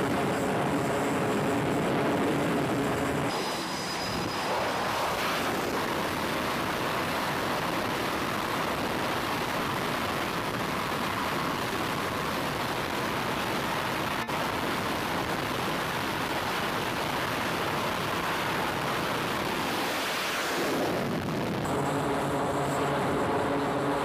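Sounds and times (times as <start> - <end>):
jet engines roaring at full power: 0.0 - 24.0.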